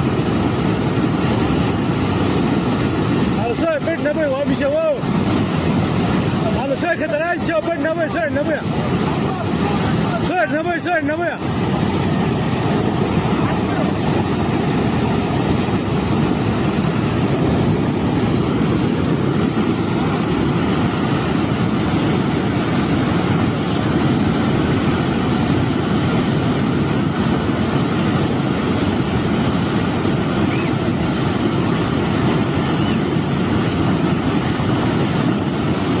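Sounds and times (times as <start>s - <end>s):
flood water rushing: 0.0s - 36.0s.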